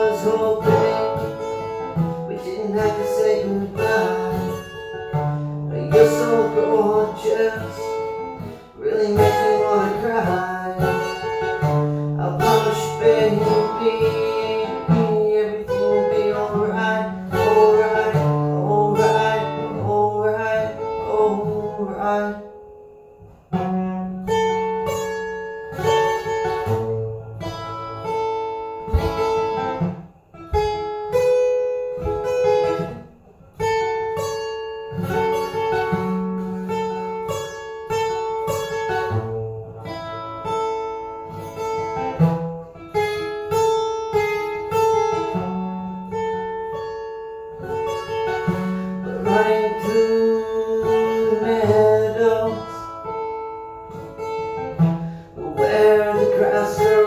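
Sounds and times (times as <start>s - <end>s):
acoustic guitar picked and strummed: 0.0s - 57.0s.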